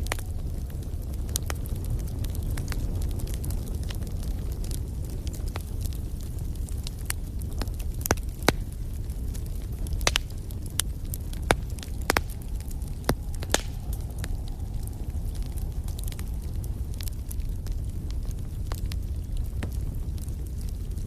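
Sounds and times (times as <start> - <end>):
fire pops and snaps: 0.0 - 21.0
low rumble of flame: 0.0 - 21.0.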